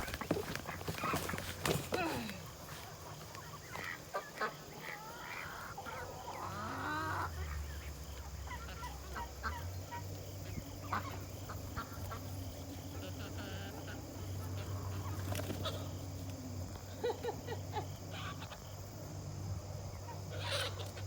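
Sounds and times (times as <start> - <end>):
ducks calling: 0.0 - 16.3, 19.9 - 21.0.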